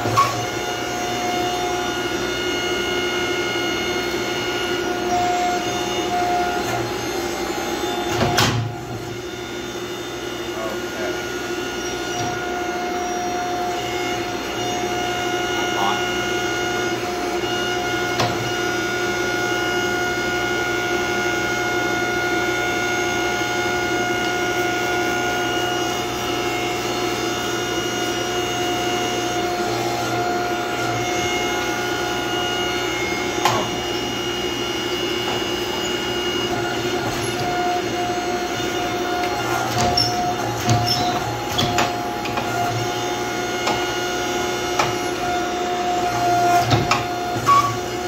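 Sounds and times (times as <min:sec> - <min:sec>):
hydraulic pump and motor humming: 0:00.0 - 0:48.0.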